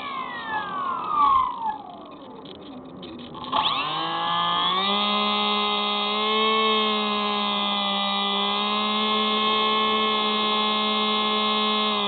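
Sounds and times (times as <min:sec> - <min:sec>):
model plane motor whine: 0:00.0 - 0:02.5, 0:03.1 - 0:12.0.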